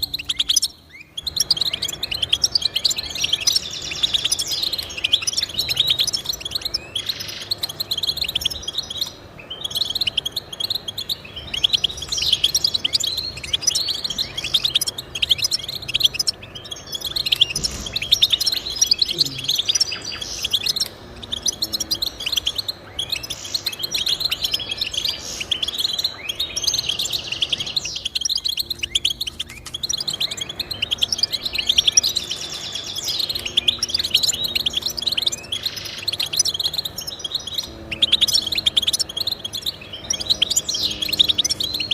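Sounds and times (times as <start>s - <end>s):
finch singing twittering song: 0.0s - 41.9s.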